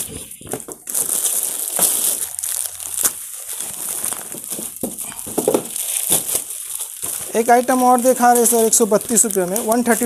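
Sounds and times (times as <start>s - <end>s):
plastic packets crinkling: 0.0s - 10.0s.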